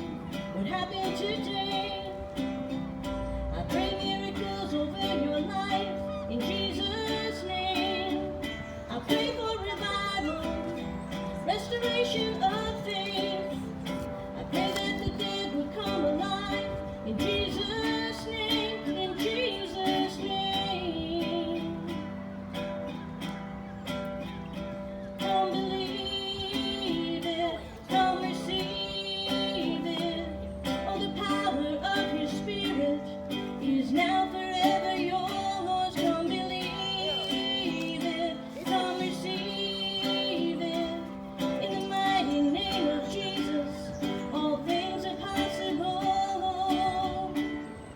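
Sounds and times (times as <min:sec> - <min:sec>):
person singing: 0:00.0 - 0:22.2, 0:25.1 - 0:47.8
acoustic guitar strumming: 0:00.0 - 0:47.9.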